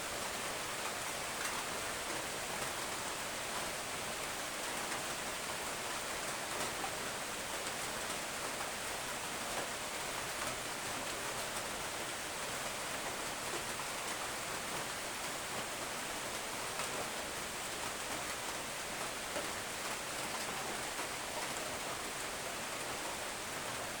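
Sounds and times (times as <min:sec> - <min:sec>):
gentle rain hiss: 0:00.0 - 0:24.0.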